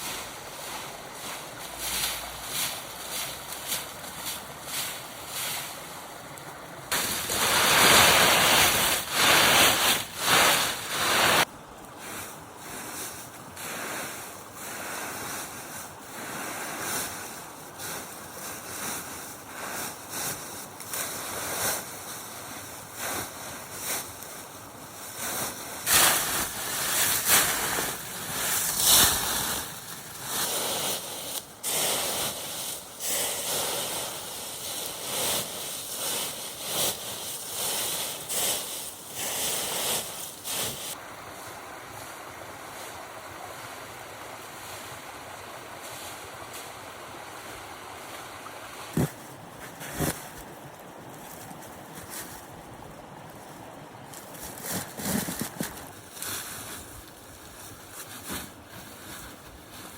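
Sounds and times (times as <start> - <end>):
broom sweeping a floor: 0.0 - 59.9.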